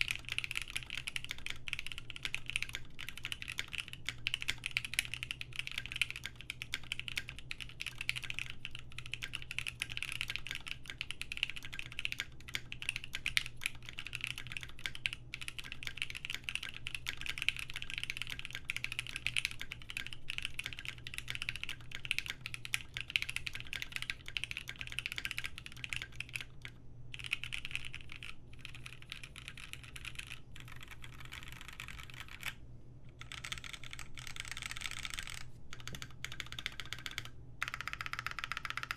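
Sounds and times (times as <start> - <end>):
fast typing on mechanical keyboard: 0.0 - 32.6, 33.2 - 38.9.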